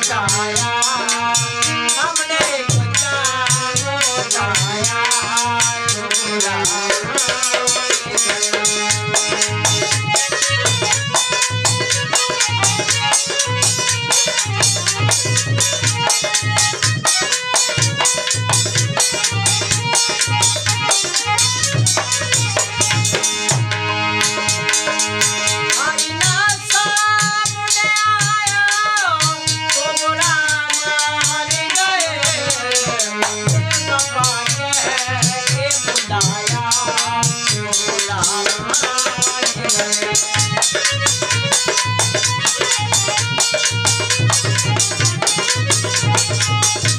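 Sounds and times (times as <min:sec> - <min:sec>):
man singing: 0:00.0 - 0:23.2, 0:25.6 - 0:46.9
fast hand drumming: 0:00.0 - 0:46.9
harmonium chords: 0:00.0 - 0:46.9.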